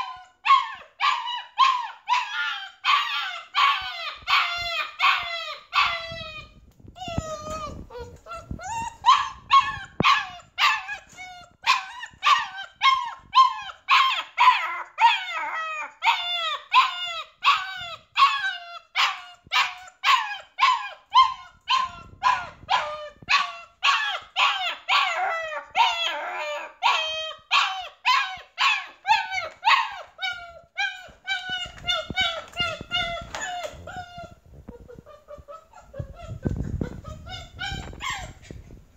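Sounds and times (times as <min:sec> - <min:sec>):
puppy crying and yelping: 0:00.0 - 0:38.8.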